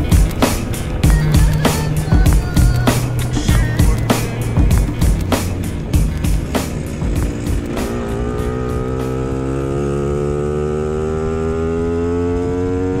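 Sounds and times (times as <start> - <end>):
moped engine accelerating: 0.0 - 13.0.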